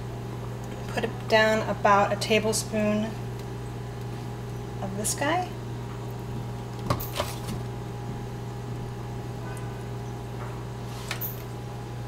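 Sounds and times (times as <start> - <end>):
low hum of room equipment: 0.0 - 12.0.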